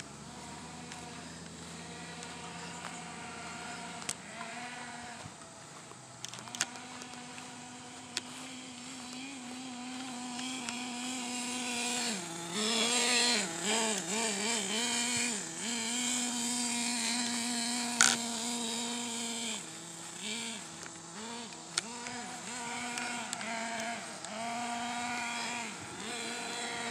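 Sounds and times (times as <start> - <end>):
small nitro engine running: 0.0 - 26.9.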